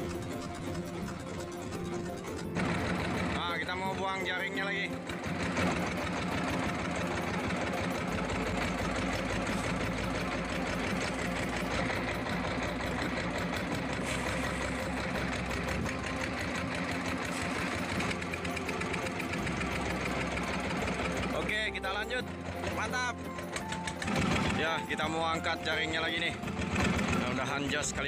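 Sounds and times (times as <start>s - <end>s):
small boat engine running: 0.0s - 28.0s.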